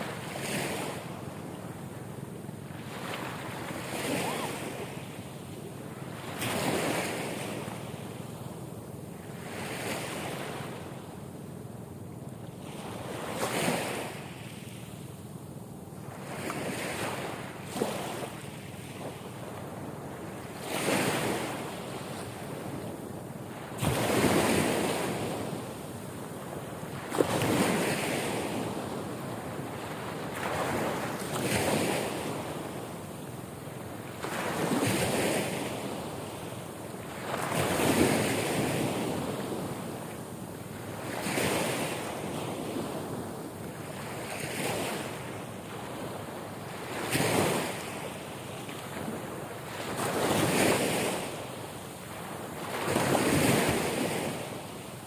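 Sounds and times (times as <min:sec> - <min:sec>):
sea waves breaking: 0:00.0 - 0:08.3, 0:16.0 - 0:22.8, 0:23.5 - 0:25.8, 0:26.5 - 0:55.0.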